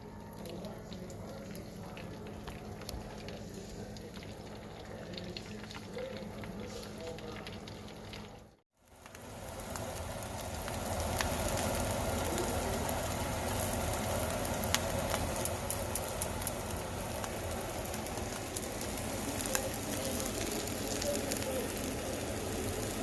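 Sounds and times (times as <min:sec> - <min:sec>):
crackles and pops: 0:00.0 - 0:23.0
mushrooms sizzling in butter: 0:00.4 - 0:23.0.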